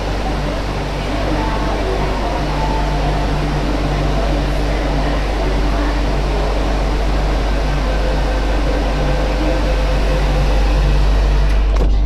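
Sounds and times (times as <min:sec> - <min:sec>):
train rushing through tunnel: 0:00.0 - 0:12.0.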